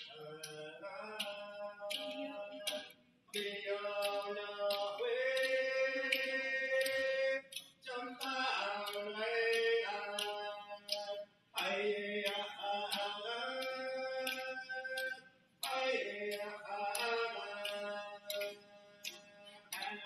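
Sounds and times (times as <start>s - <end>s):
singers chanting in unison: 0.0s - 20.0s.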